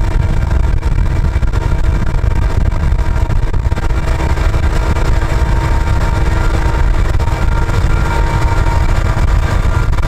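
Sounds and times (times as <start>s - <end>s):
diesel locomotive running: 0.0s - 10.0s
road and wind noise: 0.0s - 10.0s.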